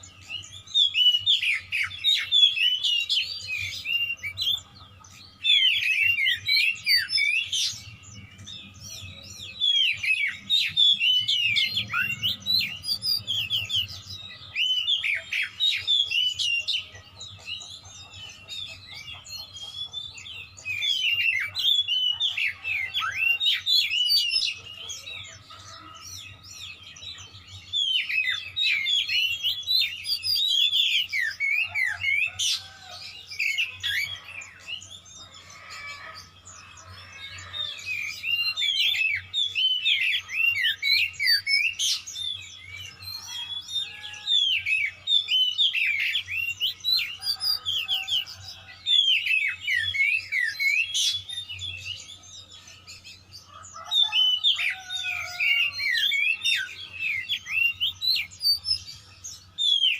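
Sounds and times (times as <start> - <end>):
bird singing whistled notes: 0.0 - 59.9.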